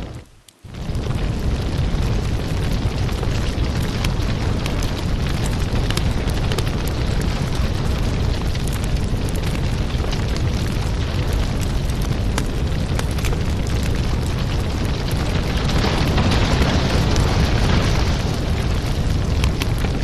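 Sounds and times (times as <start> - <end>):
firewood crackling and popping: 0.0 - 20.0
low rumble of flames: 0.0 - 20.0.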